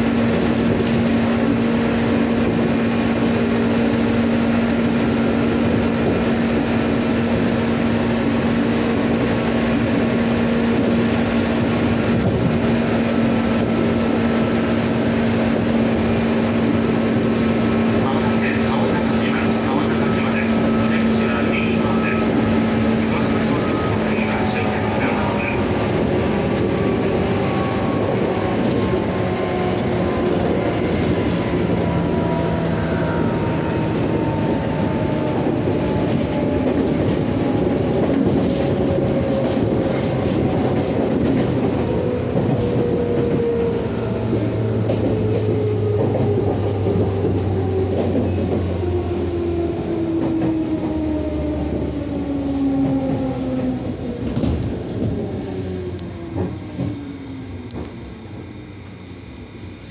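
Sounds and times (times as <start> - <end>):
train motor whine: 10.8 - 59.9.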